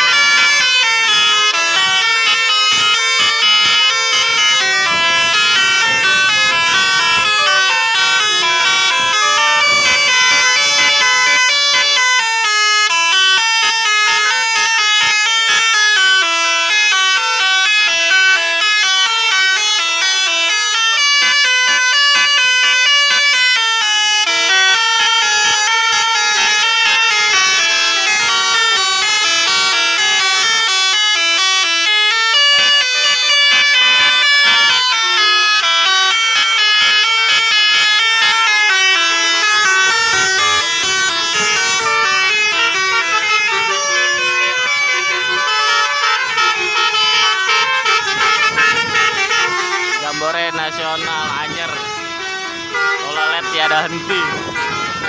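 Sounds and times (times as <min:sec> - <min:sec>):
multi-tone musical air horns: 0:00.0 - 0:55.0.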